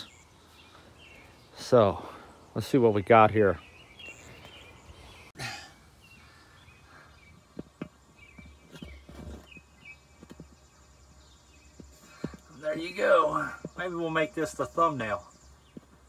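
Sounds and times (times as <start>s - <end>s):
distant bird chirps: 0.0s - 16.0s.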